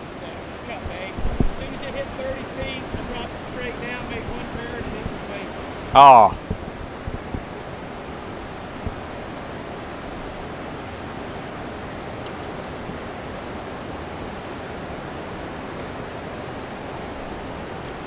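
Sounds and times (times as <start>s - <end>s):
river water rushing: 0.0s - 18.0s
wind on microphone: 0.0s - 18.0s.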